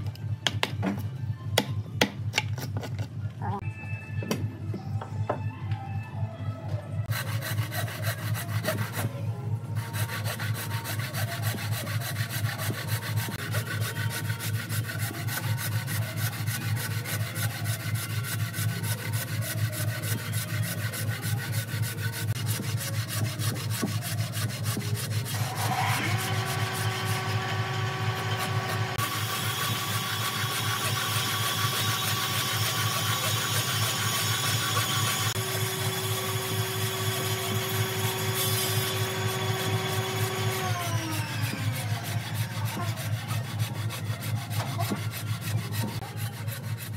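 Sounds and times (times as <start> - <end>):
hand saw rasping through wood: 7.1 - 46.9.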